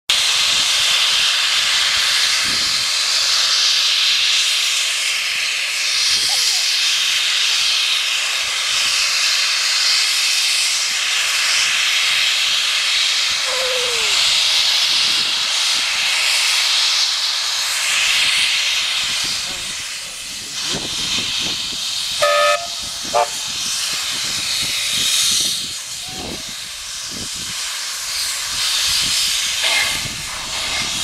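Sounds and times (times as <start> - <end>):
steam locomotive hissing: 0.1 - 31.0.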